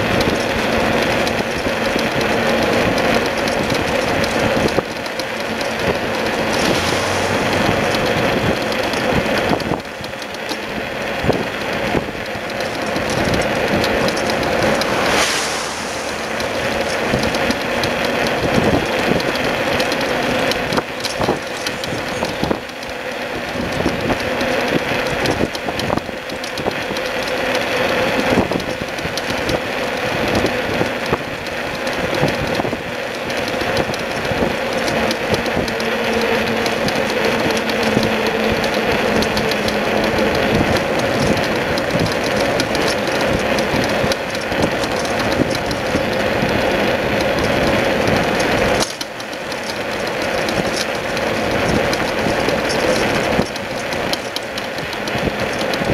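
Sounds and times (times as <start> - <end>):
bicycle trailer rolling and rattling: 0.0 - 55.9
constant hum: 0.0 - 55.9.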